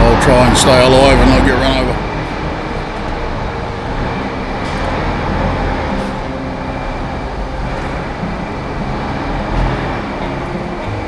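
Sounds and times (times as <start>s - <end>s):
work vehicle engine running: 0.0s - 11.0s.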